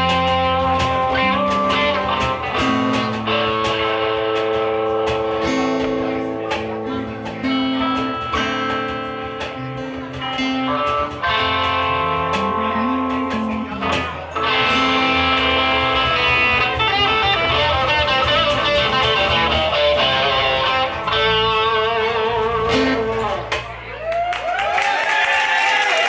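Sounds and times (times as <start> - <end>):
live band instrumental music: 0.0 - 24.0.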